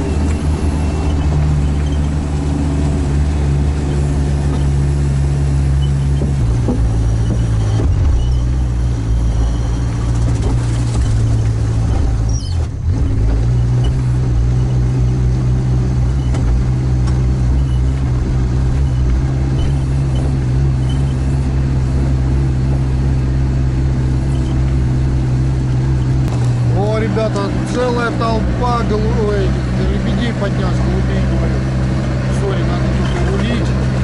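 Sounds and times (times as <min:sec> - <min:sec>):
all-terrain vehicle engine drone: 0:00.0 - 0:34.0.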